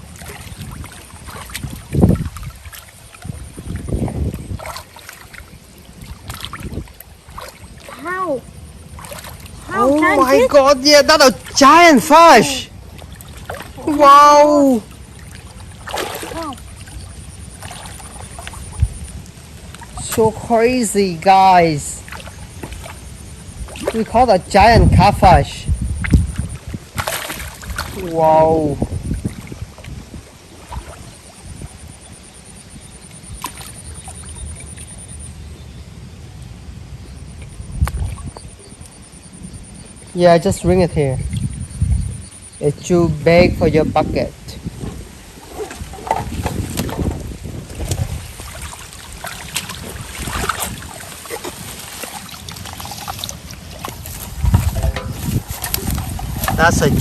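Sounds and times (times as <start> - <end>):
water splashing: 0.0 - 35.3, 37.4 - 39.0, 43.4 - 57.0
wind rumble on microphone: 0.0 - 57.0.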